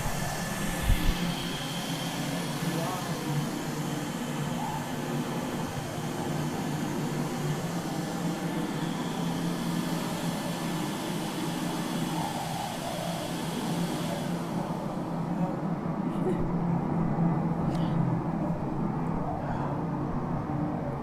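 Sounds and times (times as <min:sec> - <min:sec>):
cooling machinery and fans humming: 0:00.0 - 0:21.0.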